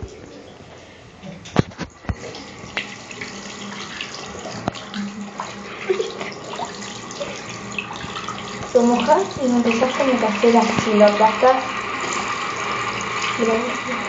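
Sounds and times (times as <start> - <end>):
tap water running into sink: 1.5 - 14.0.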